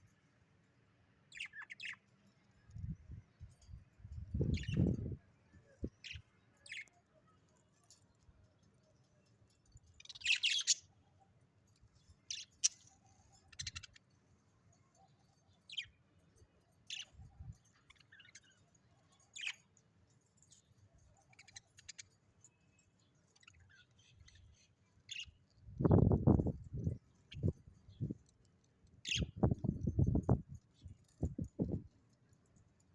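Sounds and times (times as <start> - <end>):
bird chirping: 1.3 - 8.0, 9.9 - 11.1, 11.9 - 14.2, 14.8 - 28.3, 29.0 - 31.8.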